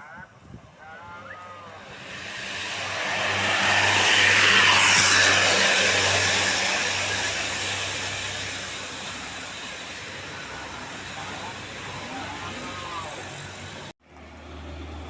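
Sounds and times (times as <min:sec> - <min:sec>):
road vehicle passing by: 0:00.9 - 0:15.0.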